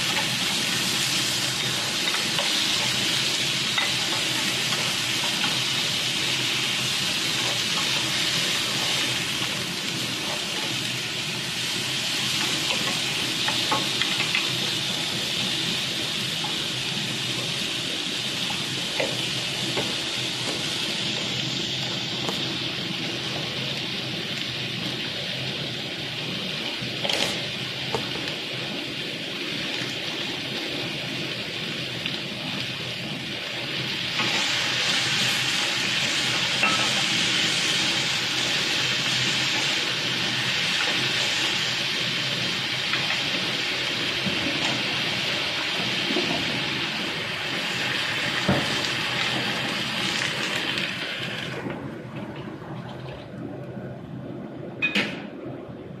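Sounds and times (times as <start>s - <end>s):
food sizzling in a wok: 0.0s - 51.7s.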